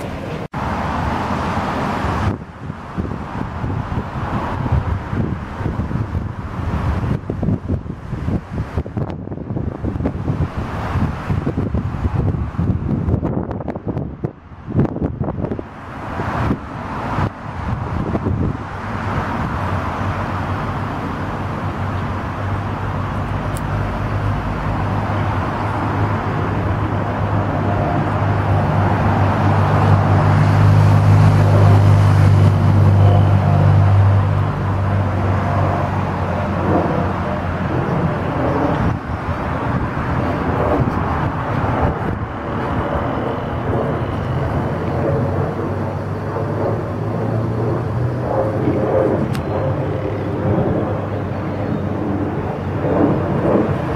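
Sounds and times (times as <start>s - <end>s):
low engine drone: 0.0s - 53.9s
outdoor rumble: 0.0s - 53.9s.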